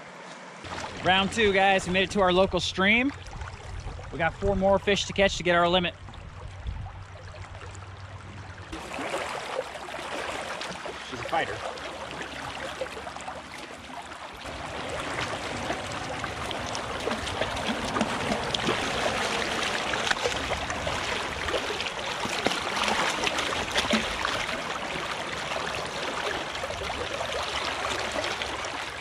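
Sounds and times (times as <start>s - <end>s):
flowing creek water: 0.0s - 29.0s
fish splashing in water: 0.6s - 2.0s, 3.0s - 4.2s, 6.0s - 29.0s.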